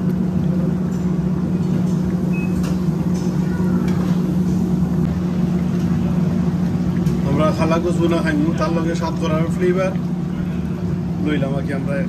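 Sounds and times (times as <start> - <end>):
exhaust hood fan drone: 0.0 - 12.0.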